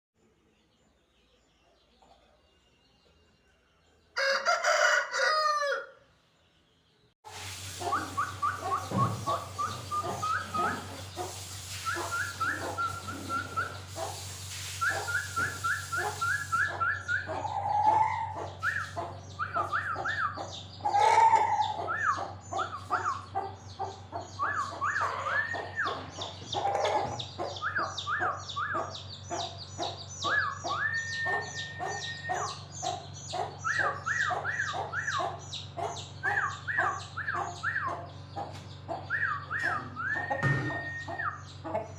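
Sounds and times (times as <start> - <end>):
birds chirping: 0.2 - 41.9
louder lower bird calls: 7.4 - 41.8.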